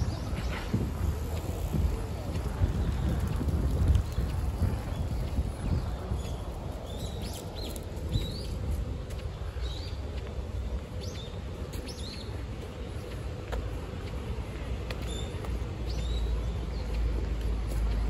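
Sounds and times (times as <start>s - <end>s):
small birds chirping: 0.0s - 18.0s
wind rumble: 0.0s - 18.0s.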